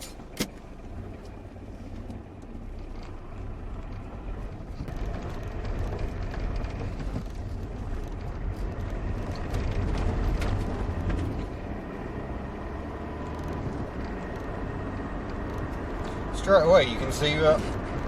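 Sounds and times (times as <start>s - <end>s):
diesel car engine: 0.0s - 18.0s
tyre and road noise: 0.0s - 18.0s.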